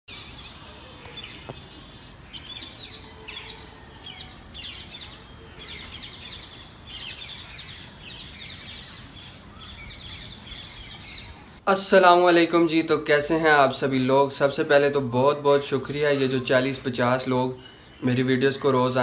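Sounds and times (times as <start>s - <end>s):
low background noise: 0.1s - 19.0s
small birds twittering: 0.1s - 19.0s.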